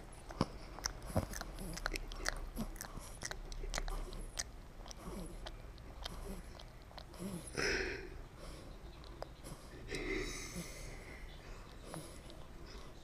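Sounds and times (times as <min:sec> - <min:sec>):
puppy smacking lips: 0:00.0 - 0:07.6, 0:08.3 - 0:10.9, 0:11.6 - 0:13.0.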